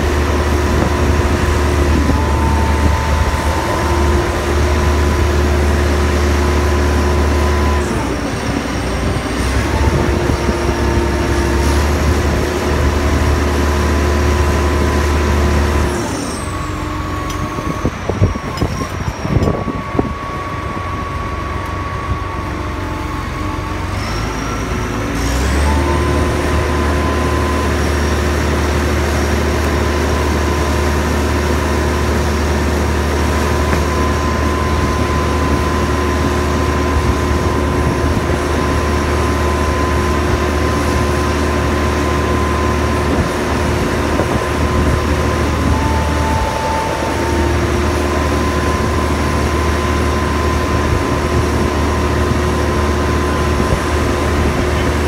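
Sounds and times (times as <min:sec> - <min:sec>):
crane engine running under load: 0:00.0 - 0:55.0
steady whining tone: 0:00.0 - 0:55.0.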